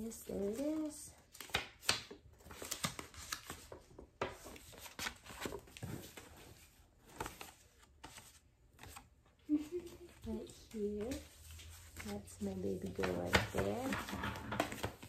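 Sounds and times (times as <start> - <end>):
paper rustling and crinkling: 0.2 - 15.0.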